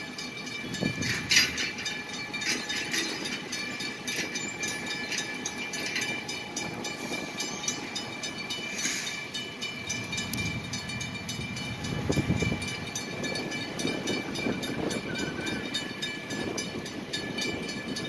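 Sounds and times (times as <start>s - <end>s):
freight cars rolling on rails: 0.0s - 18.0s
wheels and couplers clanking: 0.0s - 18.0s.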